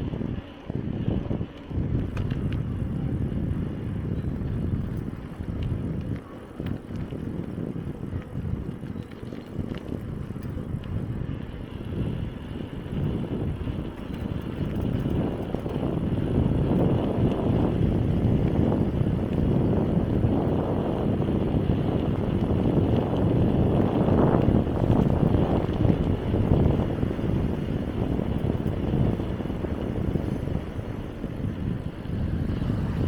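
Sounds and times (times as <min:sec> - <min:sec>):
tyres rolling over forest track: 0:00.0 - 0:33.0
wind buffeting microphone: 0:00.0 - 0:33.0
light rattles and clicks: 0:01.4 - 0:03.2, 0:04.0 - 0:33.0.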